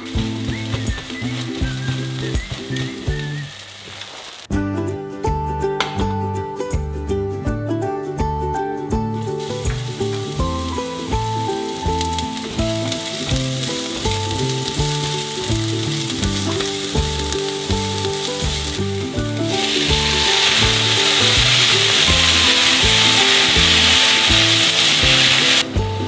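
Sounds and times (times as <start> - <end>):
food sizzling in a pan: 0.0 - 4.5, 9.2 - 26.0
background music: 4.5 - 26.0.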